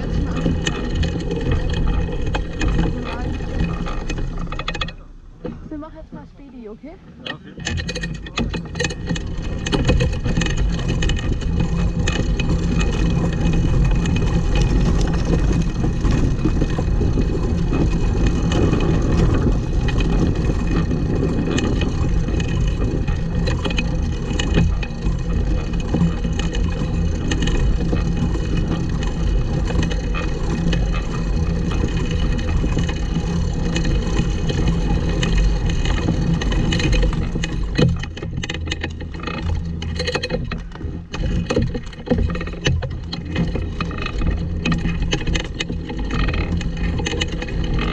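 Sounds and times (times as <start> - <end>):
kart wheels rumbling and rattling: 0.0 - 47.9.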